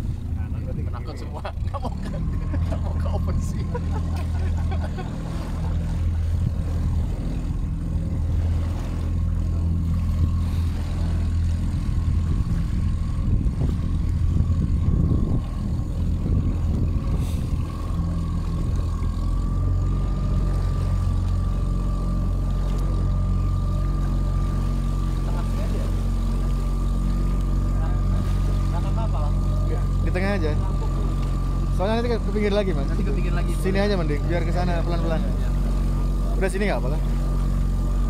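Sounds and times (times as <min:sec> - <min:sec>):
outboard motor running: 0:00.0 - 0:38.0
water rushing past hull: 0:00.0 - 0:38.0.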